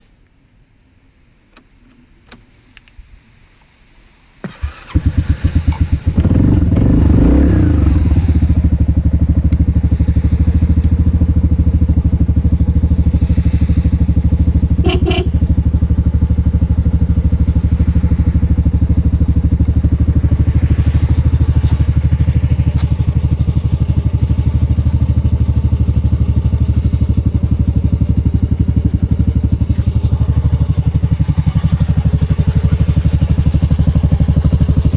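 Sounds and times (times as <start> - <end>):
scooter engine starting and idling: 4.4 - 34.9.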